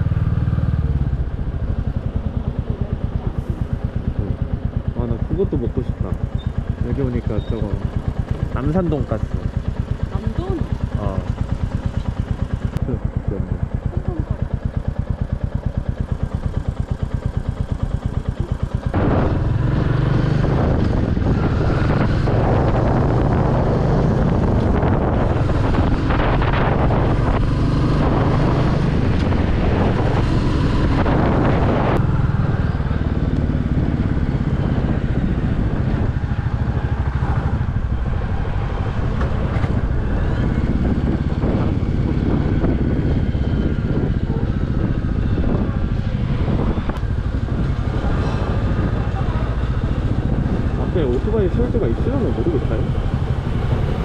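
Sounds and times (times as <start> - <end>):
motorcycle engine idling: 0.0 - 27.2, 32.0 - 54.0
motorcycle pulling away: 0.0 - 54.0.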